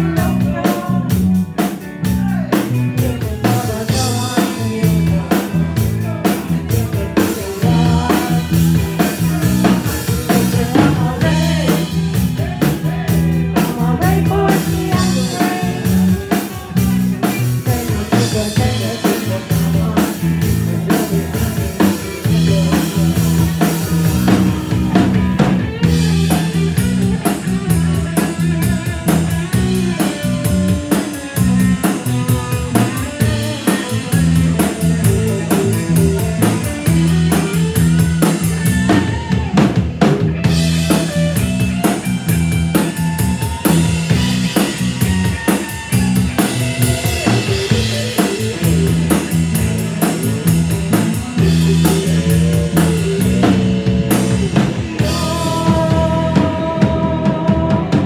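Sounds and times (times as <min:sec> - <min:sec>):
drum kit: 0:00.0 - 0:58.0
guitar: 0:00.0 - 0:58.0
low bass line: 0:00.0 - 0:58.0.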